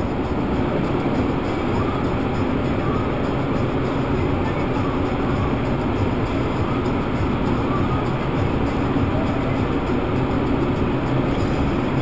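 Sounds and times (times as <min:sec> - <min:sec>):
car wash drying blower rumbling: 0:00.0 - 0:12.0.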